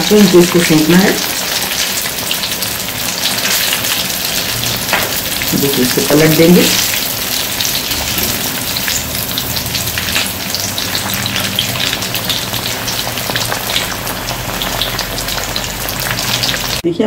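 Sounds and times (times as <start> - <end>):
oil sizzling and bubbling: 0.0 - 16.9.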